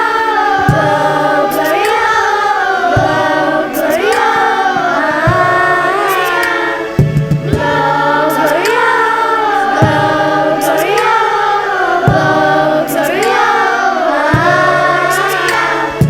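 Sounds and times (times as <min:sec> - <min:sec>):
choir singing: 0:00.0 - 0:16.0
low accompanying drone: 0:00.0 - 0:16.0.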